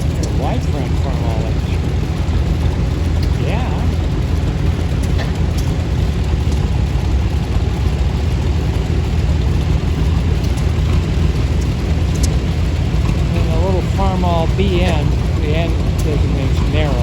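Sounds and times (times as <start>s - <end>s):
tractor engines rumbling: 0.0s - 17.0s.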